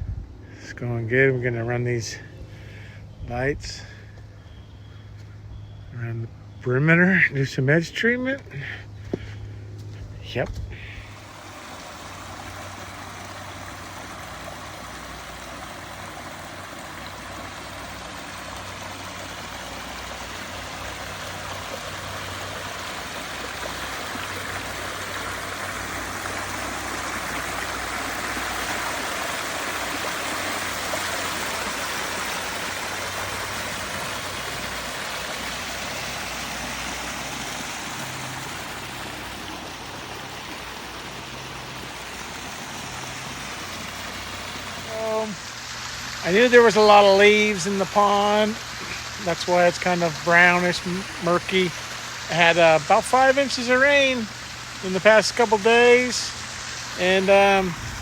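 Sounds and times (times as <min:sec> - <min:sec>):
water splashing over waterfall: 0:10.9 - 0:58.0.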